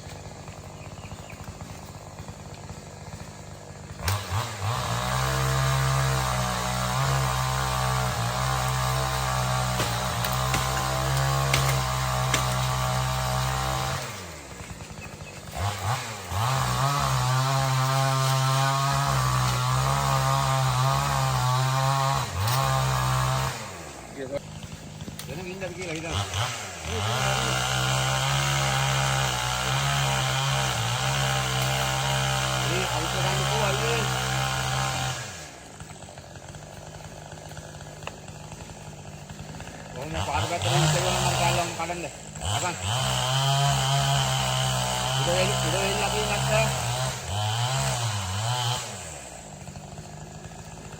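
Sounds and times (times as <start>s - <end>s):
chainsaw revving and idling: 0.0s - 50.9s.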